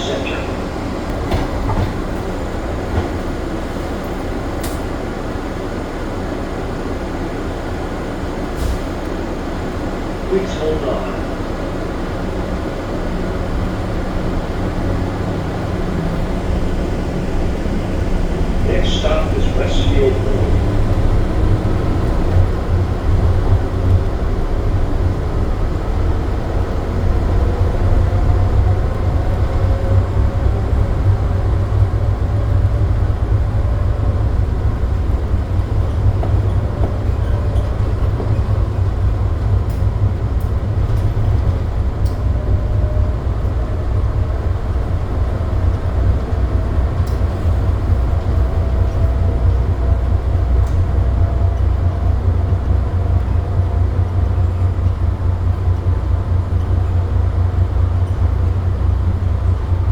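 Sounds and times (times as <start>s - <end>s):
train car low rumble: 0.0s - 59.9s.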